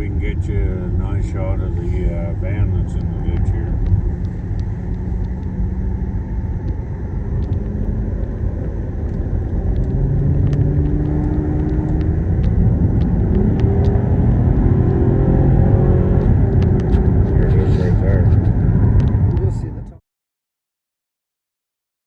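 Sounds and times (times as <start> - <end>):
car engine accelerating: 0.0 - 20.0
road rumble inside car: 0.0 - 20.0.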